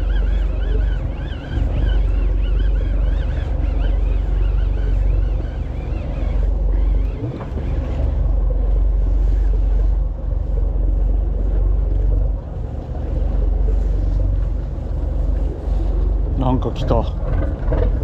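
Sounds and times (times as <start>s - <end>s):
boat and water noise: 0.0s - 18.0s
wind buffeting microphone: 0.0s - 18.0s.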